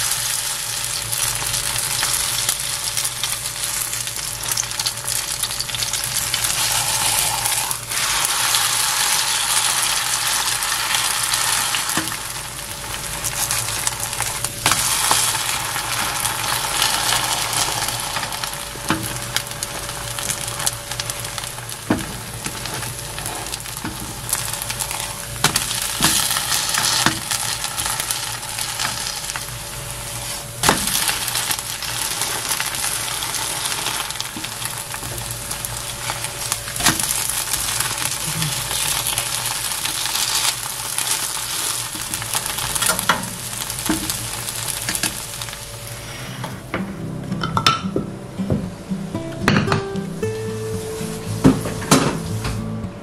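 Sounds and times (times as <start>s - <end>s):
batter sizzling in hot oil: 0.0s - 46.4s.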